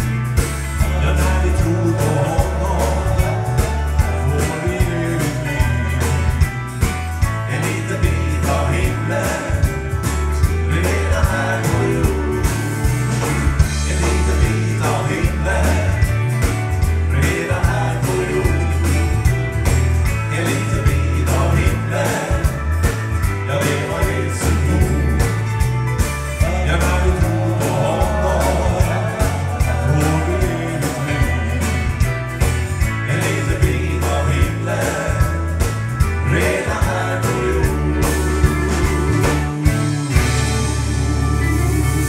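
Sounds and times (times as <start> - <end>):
drum beat: 0.0 - 42.0
gospel-country band music: 0.0 - 42.0
voices singing: 0.0 - 42.0.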